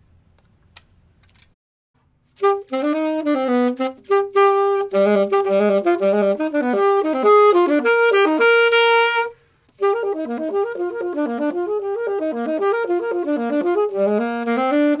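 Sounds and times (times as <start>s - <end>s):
solo saxophone: 2.3s - 15.0s.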